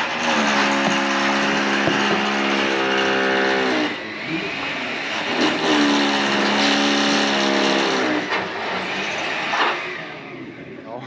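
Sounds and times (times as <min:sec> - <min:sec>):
cordless drill motor whining: 0:00.0 - 0:10.2.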